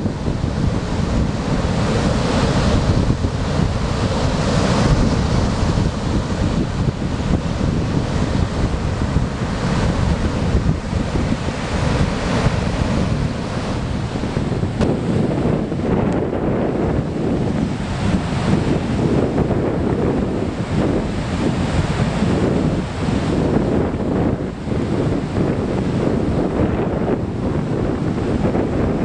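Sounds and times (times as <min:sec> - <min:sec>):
waves breaking: 0:00.0 - 0:29.0
wind buffeting microphone: 0:00.0 - 0:29.0.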